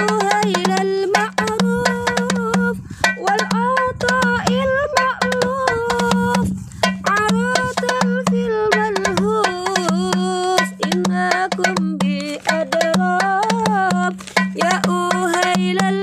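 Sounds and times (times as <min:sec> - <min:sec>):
hand drum played quickly: 0:00.0 - 0:16.0
person singing with vibrato: 0:00.0 - 0:16.0.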